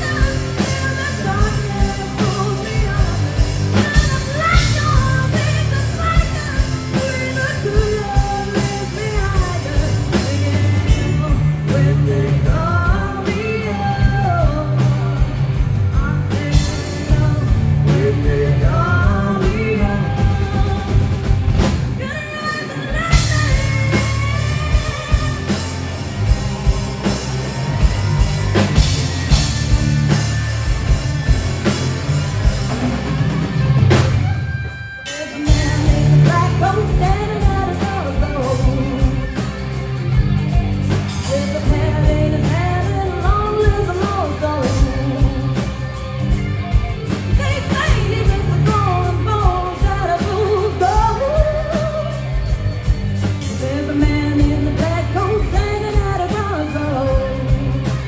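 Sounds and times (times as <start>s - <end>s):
lead singer singing: 0.0s - 58.0s
live rock band playing: 0.0s - 58.0s.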